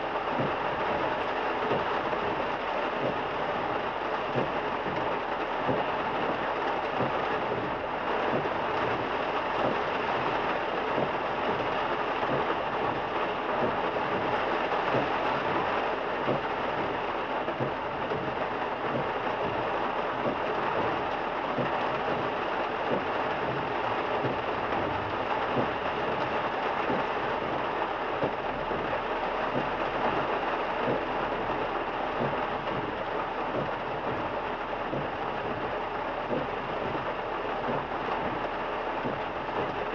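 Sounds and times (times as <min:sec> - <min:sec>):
car road noise: 0:00.0 - 0:39.9
heavy rain drumming on a car: 0:00.0 - 0:39.9.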